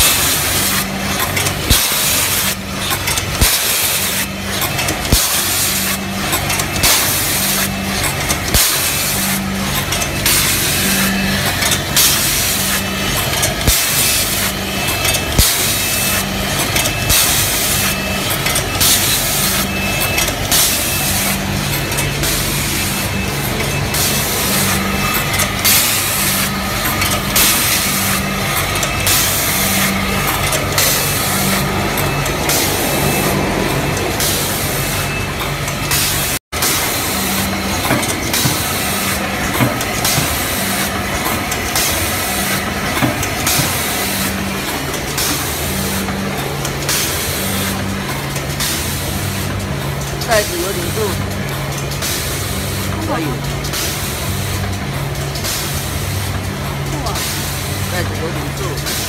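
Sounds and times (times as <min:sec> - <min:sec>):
machine clatter: 0:00.0 - 0:59.0
machine hissing: 0:00.0 - 0:59.0
packing machine running: 0:00.0 - 0:59.0.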